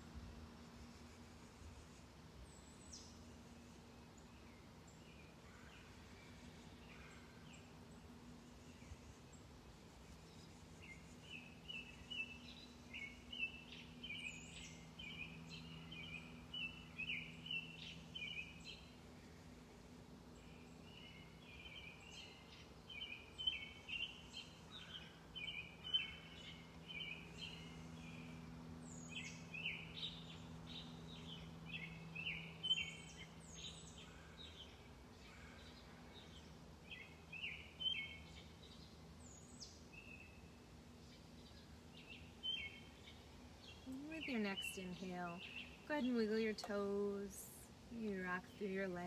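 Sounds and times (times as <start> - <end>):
faint low hum: 0.0 - 49.0
songbirds chirping: 0.0 - 49.0.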